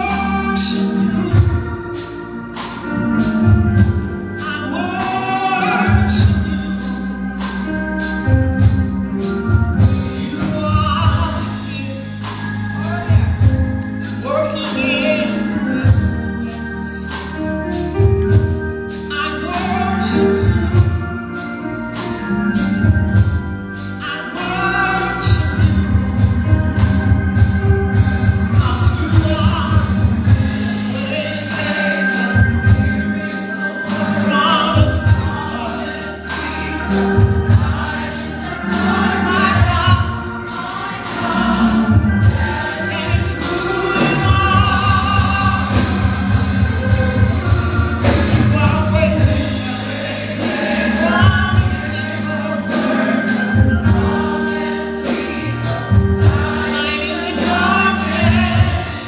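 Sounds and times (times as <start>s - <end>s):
band with bass and steady beat: 0.0s - 59.0s
gospel choir singing: 0.0s - 59.0s.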